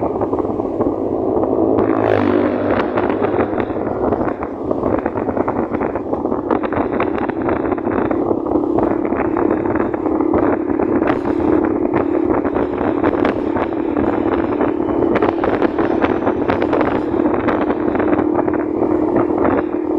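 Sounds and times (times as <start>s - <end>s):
motorcycle engine hum: 0.0s - 19.9s
wind buffeting microphone: 0.0s - 19.9s.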